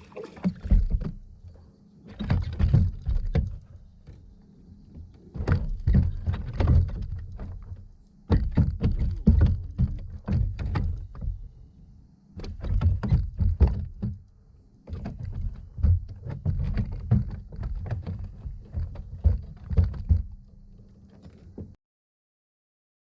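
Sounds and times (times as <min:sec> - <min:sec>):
knocks and thumps of gear: 0:00.4 - 0:01.3, 0:02.1 - 0:04.2, 0:04.9 - 0:11.5, 0:12.4 - 0:21.8.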